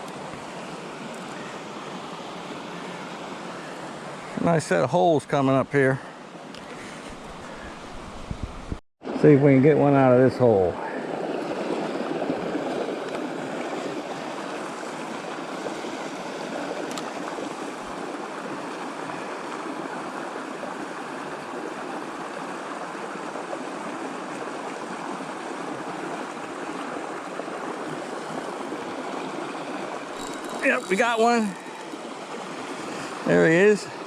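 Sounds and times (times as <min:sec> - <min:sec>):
creek water flowing over rocks: 0:00.0 - 0:08.2, 0:10.0 - 0:34.0.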